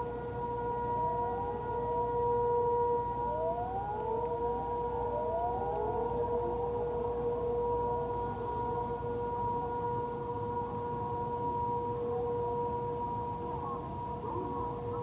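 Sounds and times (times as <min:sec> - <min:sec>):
rising sirens: 0:00.0 - 0:15.0
steady siren: 0:00.0 - 0:15.0.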